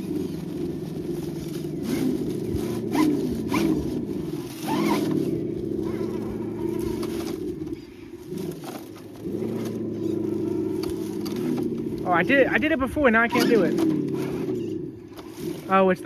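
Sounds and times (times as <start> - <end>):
simulated engine revving: 0.0 - 16.0.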